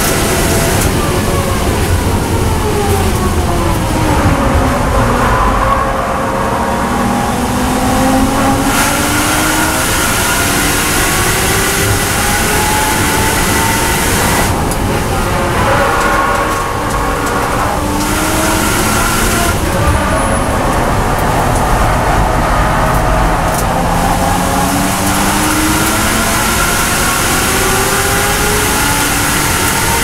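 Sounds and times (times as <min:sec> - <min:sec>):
car engine accelerating: 0:00.0 - 0:30.0
road and wind noise: 0:00.0 - 0:30.0.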